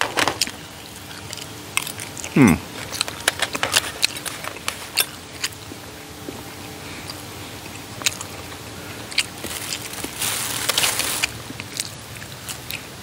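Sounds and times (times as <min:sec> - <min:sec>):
man chewing with mouth closed: 0:00.4 - 0:13.0.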